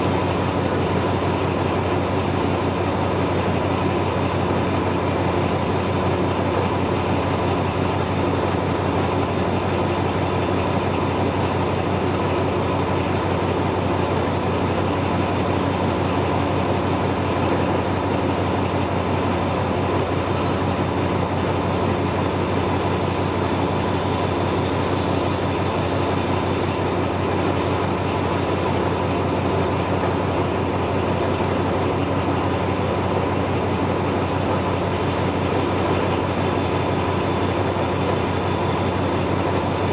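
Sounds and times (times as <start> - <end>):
diesel train running: 0.0 - 39.9.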